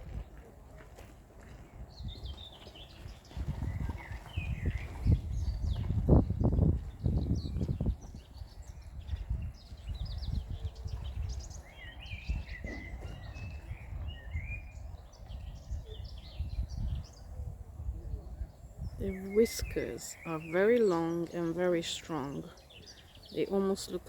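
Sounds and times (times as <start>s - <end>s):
small birds chirping and singing: 1.4s - 24.0s.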